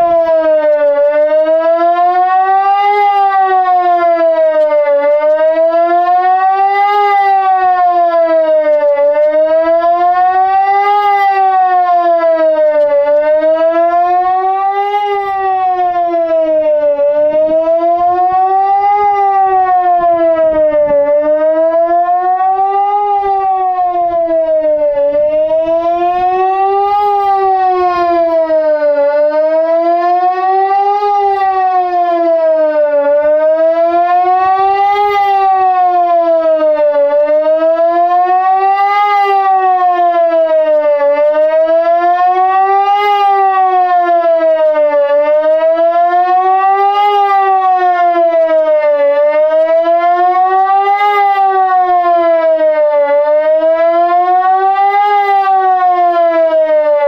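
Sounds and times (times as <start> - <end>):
rising and falling siren: 0.0 - 57.0.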